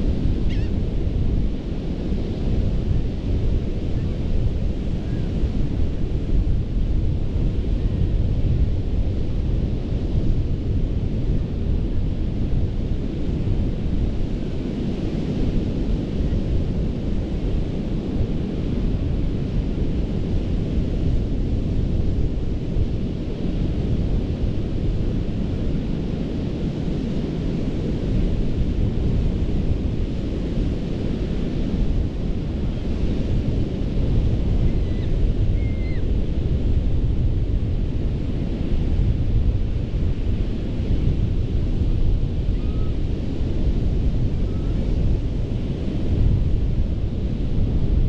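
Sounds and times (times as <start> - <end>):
ocean surf on beach: 0.0 - 48.0
wind rumble on microphone: 0.0 - 48.0.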